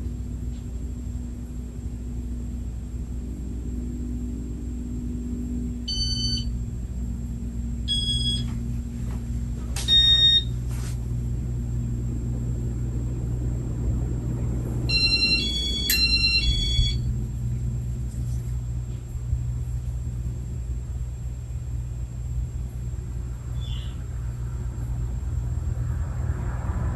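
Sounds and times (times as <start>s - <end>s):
ceiling fan humming: 0.0s - 26.9s.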